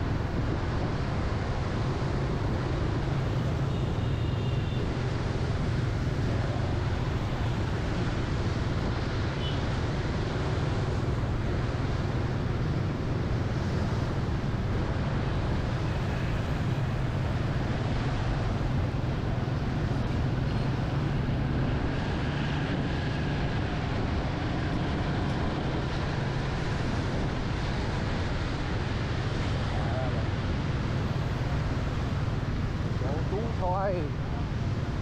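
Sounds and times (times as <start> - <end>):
motorcycle road and wind noise: 0.0 - 35.0.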